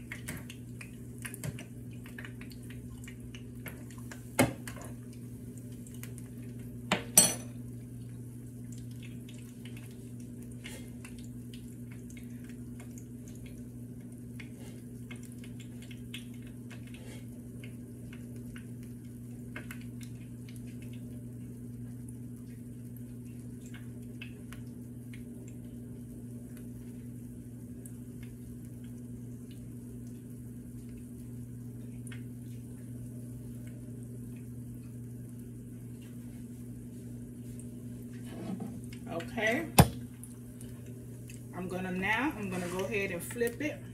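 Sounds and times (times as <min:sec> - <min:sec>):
batter frying in oil: 0:00.0 - 0:43.9.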